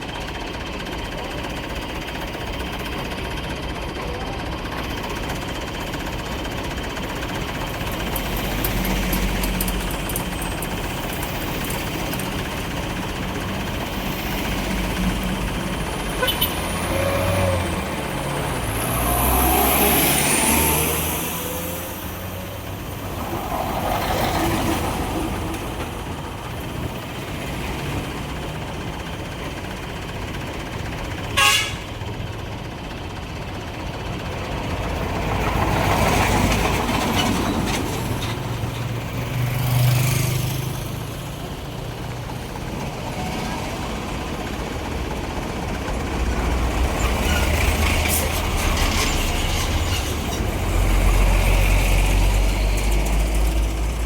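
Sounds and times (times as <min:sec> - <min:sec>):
trucks and cars passing: 0:00.0 - 0:54.0.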